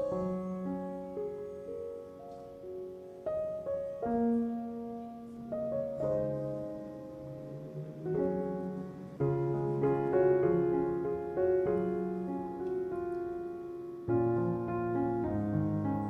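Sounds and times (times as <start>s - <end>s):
soft solo piano chords: 0.0s - 16.0s.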